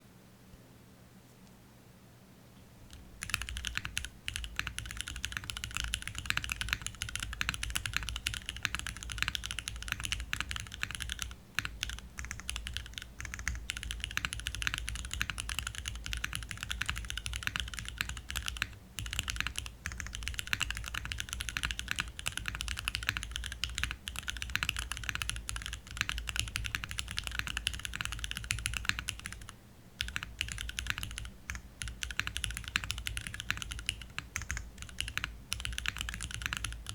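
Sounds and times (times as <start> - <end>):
mechanical keyboard typing: 2.9 - 36.9.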